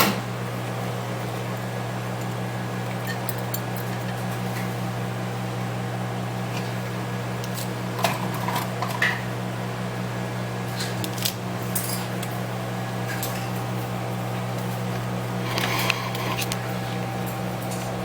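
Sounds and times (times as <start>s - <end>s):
low electrical hum: 0.3s - 18.0s.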